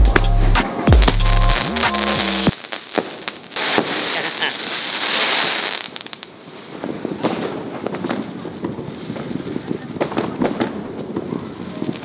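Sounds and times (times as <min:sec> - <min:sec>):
fireworks cracking and popping: 0:00.1 - 0:12.0.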